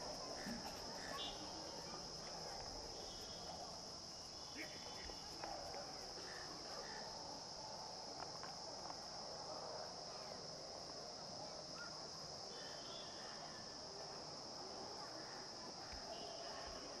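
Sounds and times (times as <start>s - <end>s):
cricket chorus: 0.0s - 17.0s.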